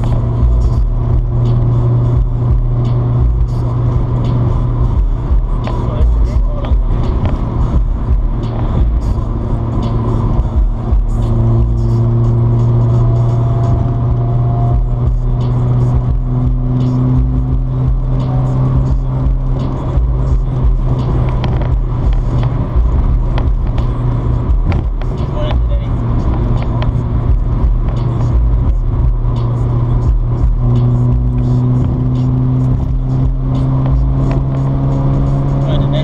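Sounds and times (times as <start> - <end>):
car engine drone: 0.0 - 36.0
tyre and road roar: 0.0 - 36.0.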